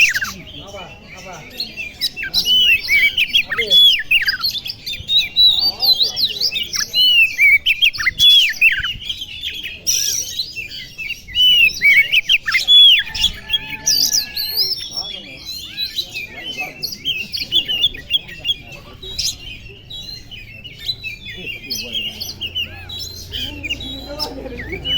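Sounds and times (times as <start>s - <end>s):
songbird whistling: 0.0s - 0.5s, 1.5s - 24.9s.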